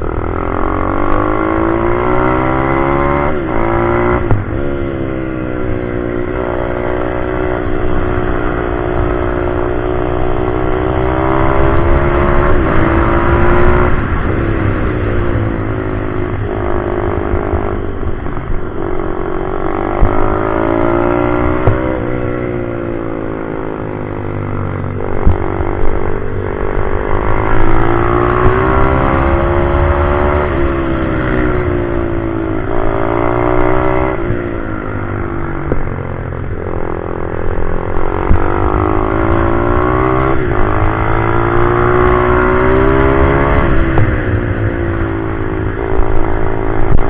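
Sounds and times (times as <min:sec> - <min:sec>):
motorbike engine revving: 0:00.0 - 0:47.0
wind rumble: 0:00.0 - 0:47.0.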